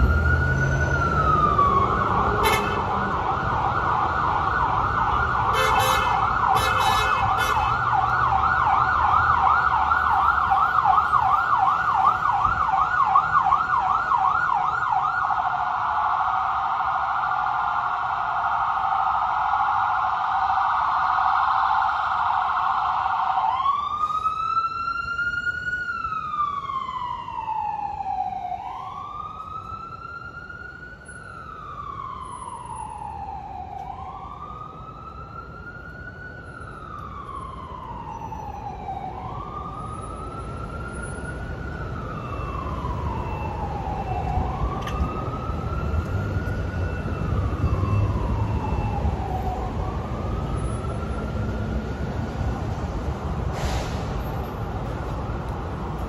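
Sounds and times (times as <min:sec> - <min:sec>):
emergency vehicle siren: 0:00.0 - 0:56.0
low traffic rumble: 0:00.0 - 0:56.0.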